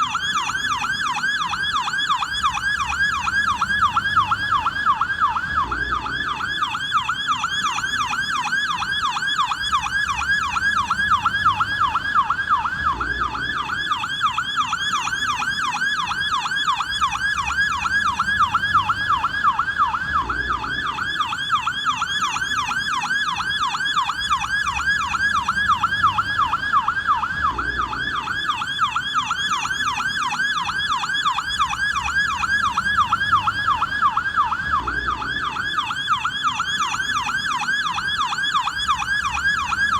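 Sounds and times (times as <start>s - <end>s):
police siren yelping: 0.0s - 39.9s.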